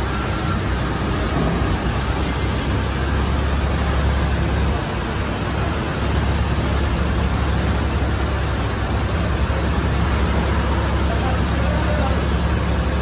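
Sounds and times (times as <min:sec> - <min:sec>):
crane diesel engine droning: 0:00.0 - 0:13.0.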